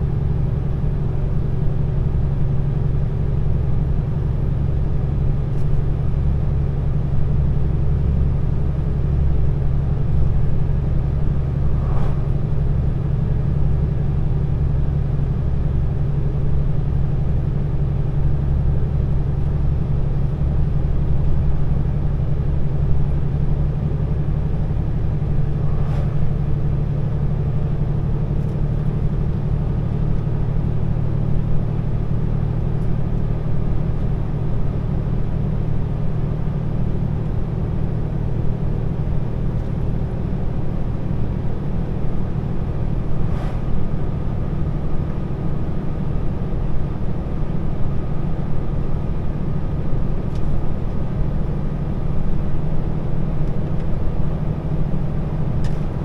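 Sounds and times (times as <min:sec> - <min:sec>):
truck engine droning: 0:00.0 - 0:56.0.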